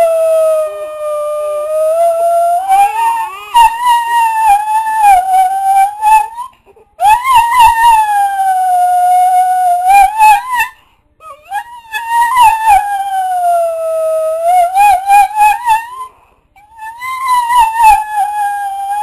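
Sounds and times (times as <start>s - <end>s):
dog howling: 0.0s - 19.0s.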